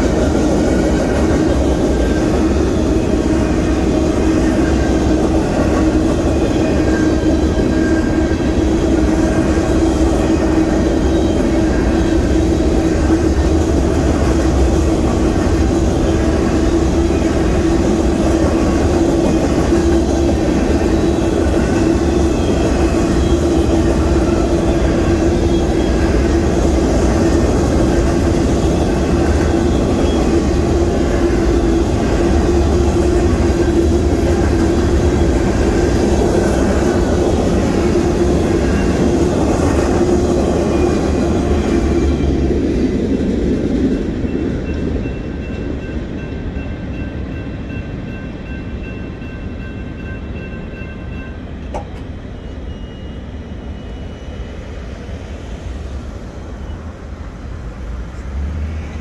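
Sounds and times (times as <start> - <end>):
freight train rumbling on rails: 0.0 - 59.0.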